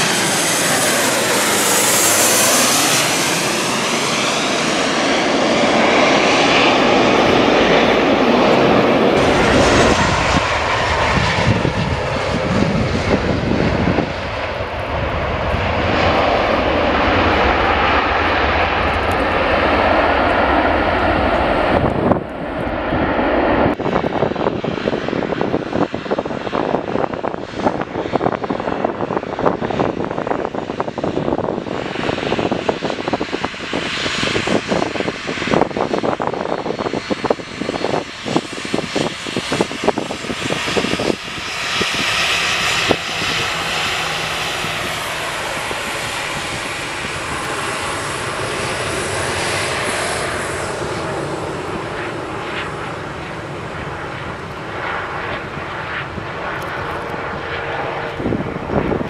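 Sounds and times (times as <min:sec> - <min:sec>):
jet engine noise: 0:00.0 - 0:59.0
jet plane passing overhead: 0:00.0 - 0:59.0.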